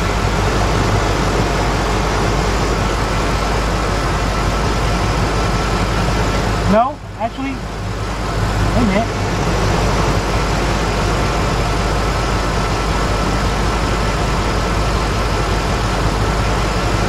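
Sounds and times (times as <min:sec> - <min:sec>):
engine idling rough with misfire: 0:00.0 - 0:17.0.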